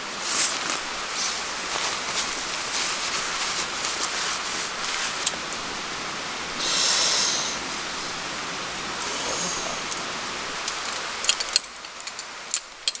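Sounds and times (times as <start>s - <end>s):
loud hiss: 0.0s - 11.2s
stream water rushing: 0.0s - 11.6s.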